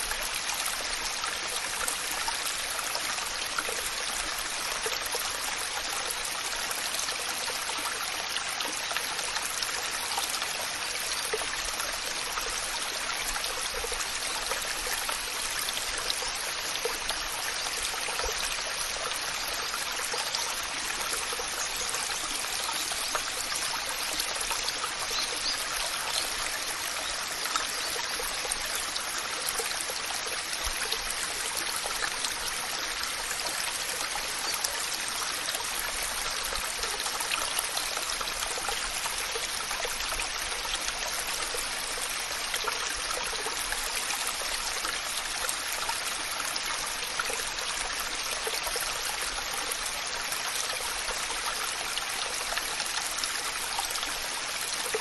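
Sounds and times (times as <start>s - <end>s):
small splashes and trickles: 0.0s - 55.0s.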